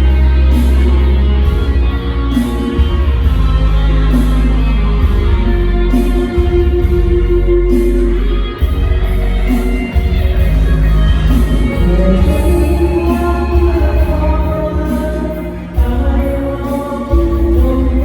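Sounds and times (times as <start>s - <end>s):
loud music with guitar and bass: 0.0s - 18.0s.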